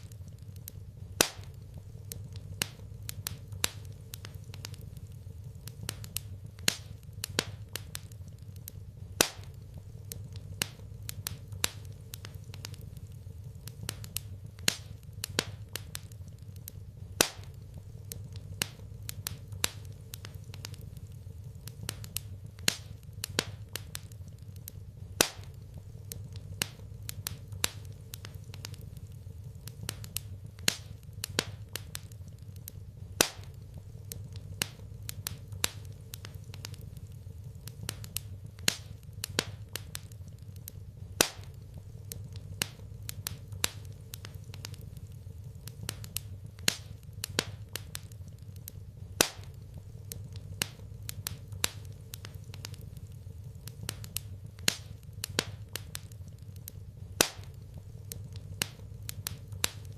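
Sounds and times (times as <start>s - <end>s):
low steady rumble: 0.0s - 59.9s
wood fire crackling: 0.0s - 59.9s.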